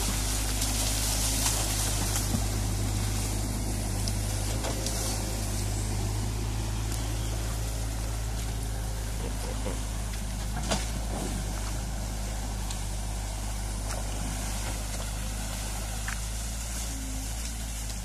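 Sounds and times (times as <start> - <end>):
excavator diesel engine running: 0.0 - 18.0
stream water rushing: 0.0 - 18.0.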